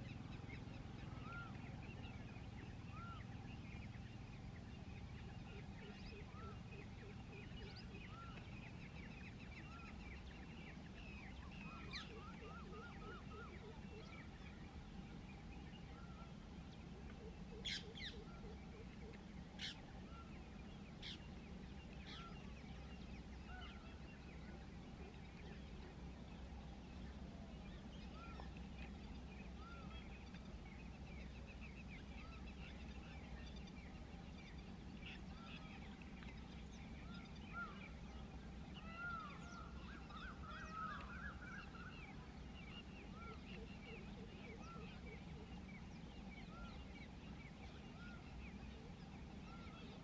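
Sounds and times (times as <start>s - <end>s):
faint bird chirps: 0.0s - 50.0s.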